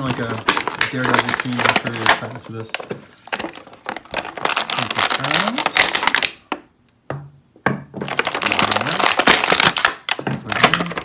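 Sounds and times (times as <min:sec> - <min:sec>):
plastic bag crinkling: 0:00.0 - 0:06.4, 0:08.0 - 0:11.0.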